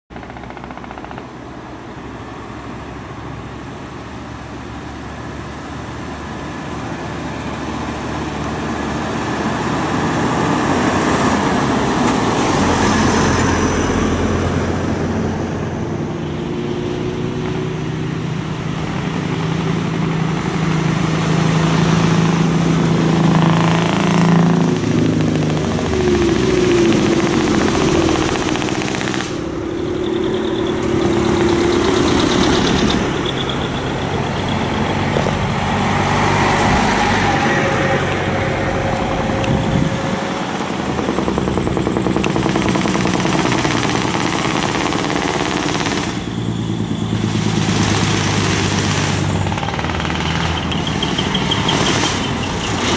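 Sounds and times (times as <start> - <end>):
heavy diesel truck engines: 0.1 - 52.9.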